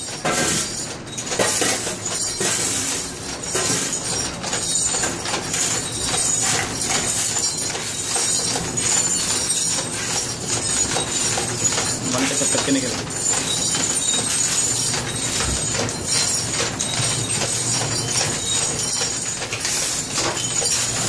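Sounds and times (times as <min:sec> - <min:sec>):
scrap steel clattering in machine: 0:00.0 - 0:21.0.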